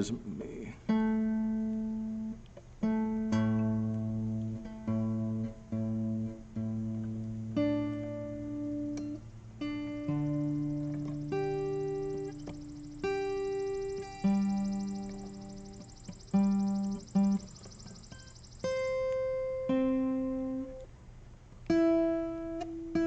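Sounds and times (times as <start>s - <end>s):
twelve-string acoustic guitar: 0.0s - 23.0s.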